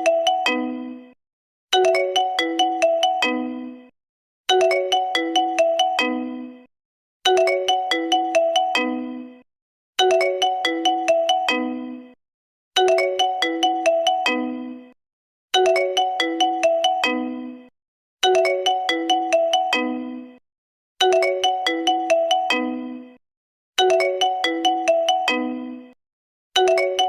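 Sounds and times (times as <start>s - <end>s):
ringtone melody: 0.0s - 3.9s, 4.5s - 6.7s, 7.3s - 9.4s, 10.0s - 12.2s, 12.8s - 15.0s, 15.6s - 20.4s, 21.0s - 23.2s, 23.8s - 26.0s, 26.6s - 27.0s.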